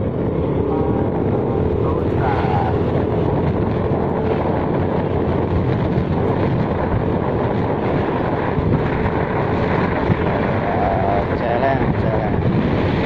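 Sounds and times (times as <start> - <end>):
moving vehicle rumble: 0.0 - 13.0
road noise: 0.0 - 13.0.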